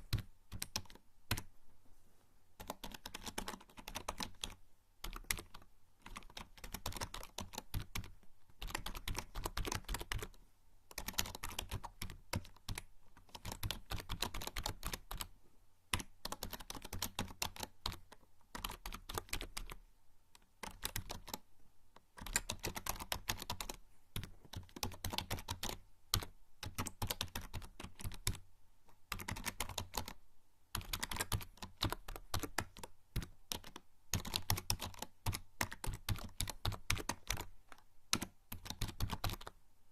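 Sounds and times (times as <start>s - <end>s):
typing on computer keyboard: 0.0s - 1.5s, 2.6s - 15.3s, 15.9s - 19.8s, 20.4s - 21.5s, 22.1s - 28.4s, 29.0s - 39.6s.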